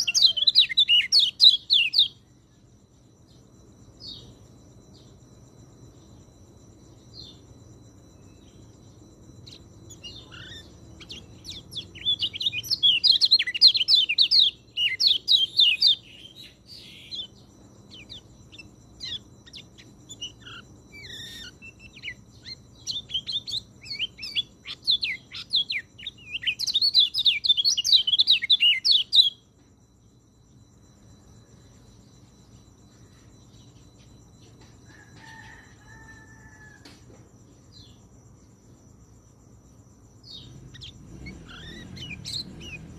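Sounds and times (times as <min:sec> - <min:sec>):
thrush singing chirps and trills: 0:00.0 - 0:36.7, 0:37.6 - 0:42.9
faint steady background hum: 0:00.0 - 0:42.9.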